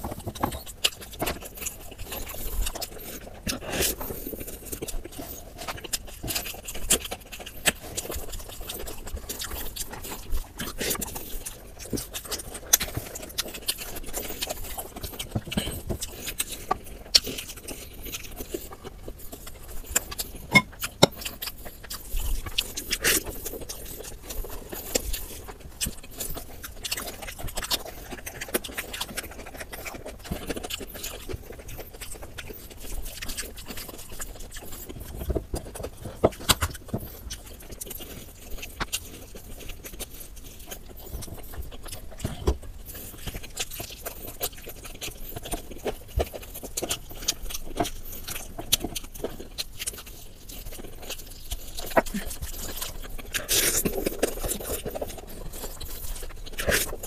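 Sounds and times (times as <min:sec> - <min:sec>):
chewing and lip-smacking: 0:00.0 - 0:57.0.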